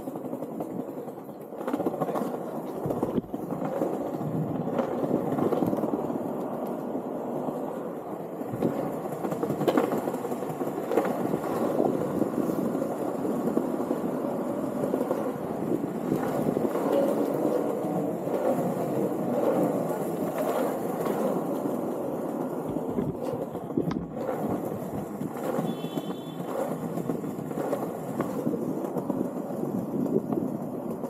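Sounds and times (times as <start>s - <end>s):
skateboard wheels rumbling on stone: 0.0s - 31.0s.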